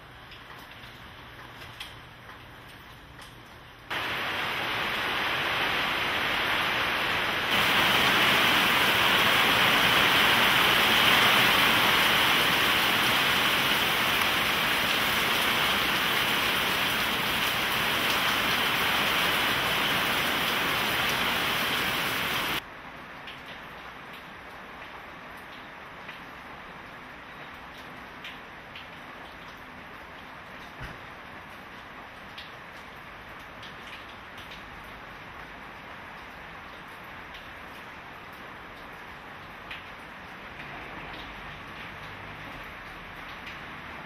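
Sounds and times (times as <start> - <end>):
heavy rain falling: 3.9 - 44.0.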